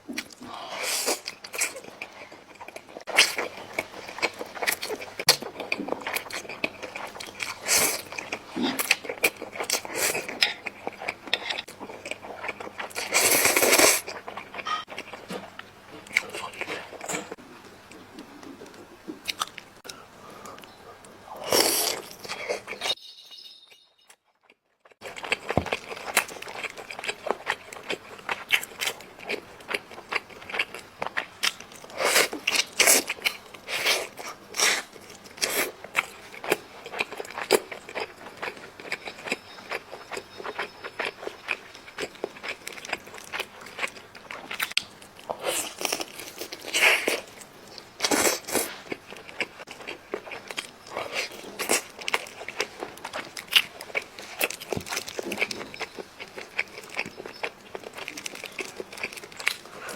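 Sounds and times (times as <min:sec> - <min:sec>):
person chewing crunchy food: 0:00.1 - 0:18.6, 0:24.4 - 0:59.9.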